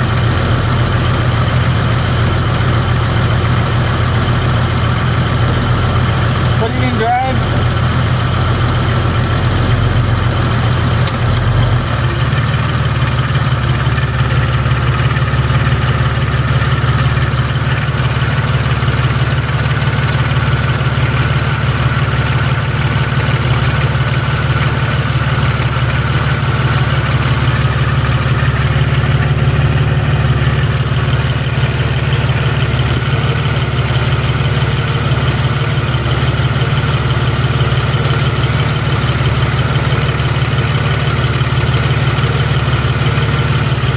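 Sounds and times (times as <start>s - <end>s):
car engine running with ticking: 0.0s - 43.9s.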